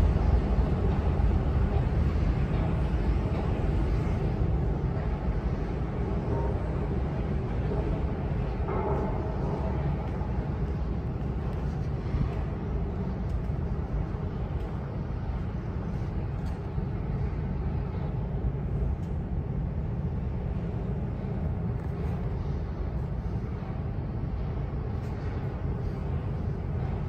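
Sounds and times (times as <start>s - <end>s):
subway station rumble: 0.0s - 27.0s.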